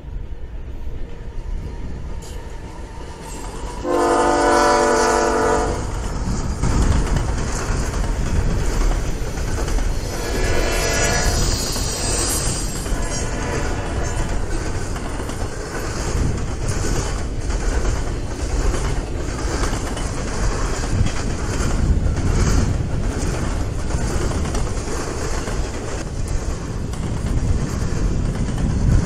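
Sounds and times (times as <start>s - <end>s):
freight train rumble: 0.0s - 29.0s
wheels clacking over rail joints: 2.1s - 29.0s.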